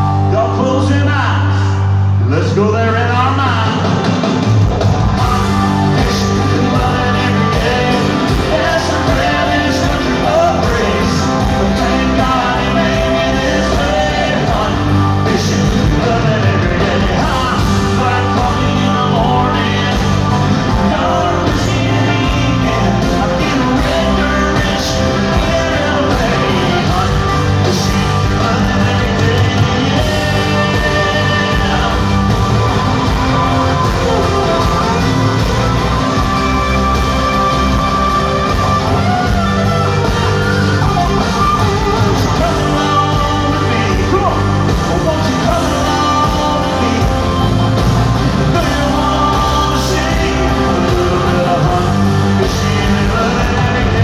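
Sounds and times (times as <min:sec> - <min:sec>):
live rock band with singer: 0:00.0 - 0:54.0.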